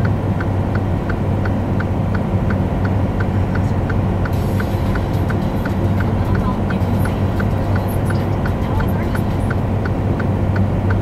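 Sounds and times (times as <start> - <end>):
light regular ticking: 0.0 - 11.0
road noise: 0.0 - 11.0
truck diesel engine drone: 0.0 - 11.0.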